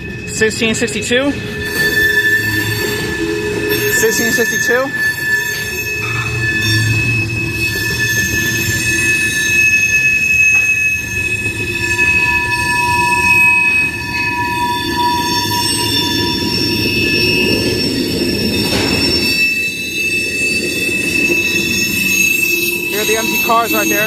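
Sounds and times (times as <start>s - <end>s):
train cars rumbling past: 0.0s - 24.0s
wheel flanges squealing: 0.0s - 24.0s.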